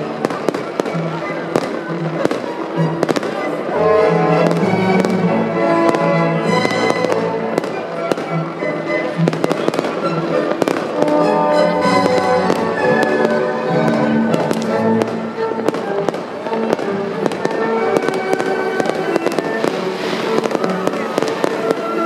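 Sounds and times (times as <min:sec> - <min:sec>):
fireworks bangs and crackles: 0:00.0 - 0:22.0
orchestral waltz music: 0:00.0 - 0:22.0.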